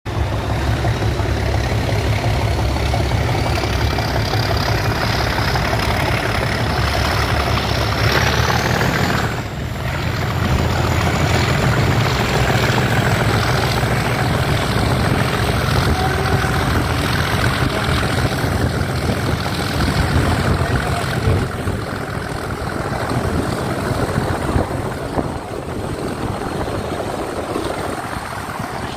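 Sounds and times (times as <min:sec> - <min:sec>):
diesel locomotive engine throbbing: 0:00.0 - 0:28.9.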